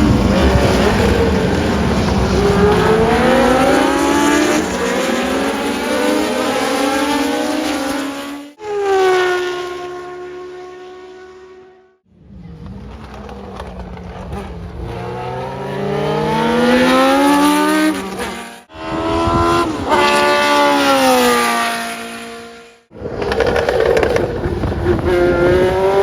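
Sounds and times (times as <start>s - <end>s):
race car engine at high revs: 0.0s - 11.8s, 12.4s - 26.0s
race car engine accelerating: 0.0s - 26.0s.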